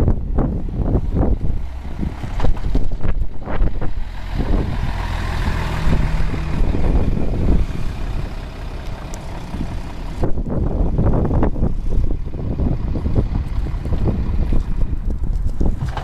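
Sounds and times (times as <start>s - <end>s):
bus approaching: 0.0s - 16.0s
bus pulling away: 0.0s - 16.0s.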